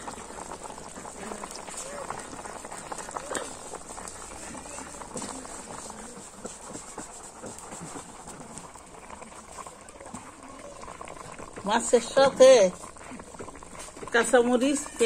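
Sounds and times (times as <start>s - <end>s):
gravy bubbling in a pot: 0.0s - 15.0s.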